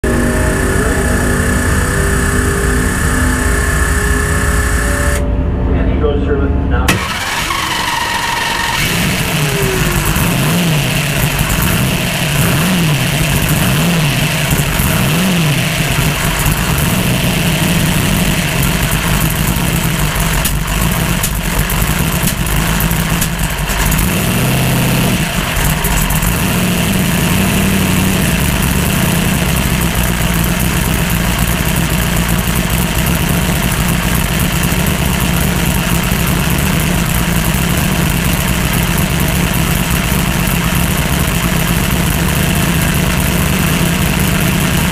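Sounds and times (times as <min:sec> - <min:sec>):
car engine idling with throttle blips: 0:00.0 - 0:05.4, 0:06.8 - 0:44.9.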